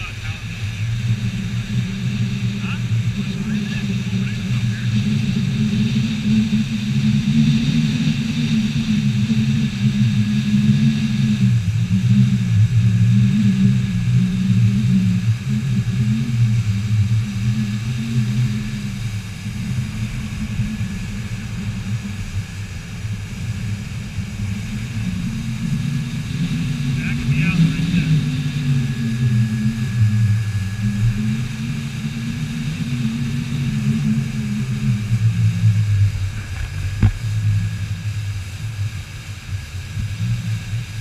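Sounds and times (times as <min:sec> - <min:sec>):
vehicle engine cruising hum: 0:00.0 - 0:41.0.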